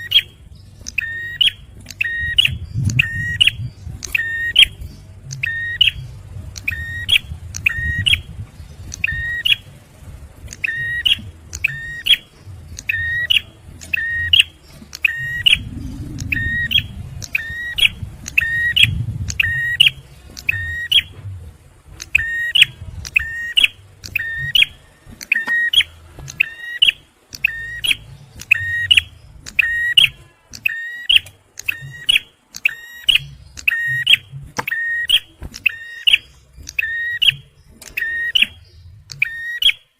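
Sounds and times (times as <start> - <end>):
bird giving shrill calls: 0.0 - 6.0, 8.9 - 9.7, 10.6 - 21.1, 22.0 - 39.9
low rumble: 0.0 - 25.2, 25.8 - 30.3, 36.2 - 39.3.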